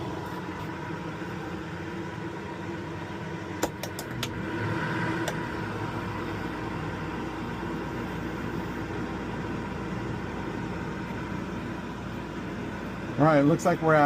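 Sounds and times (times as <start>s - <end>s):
air conditioner humming: 0.0s - 14.0s.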